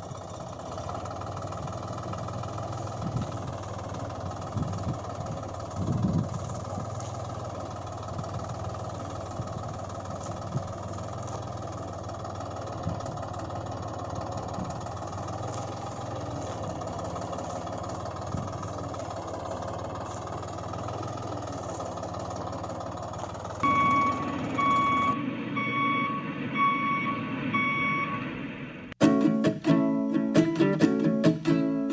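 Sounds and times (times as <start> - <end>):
tractor engine idling: 0.0 - 31.9.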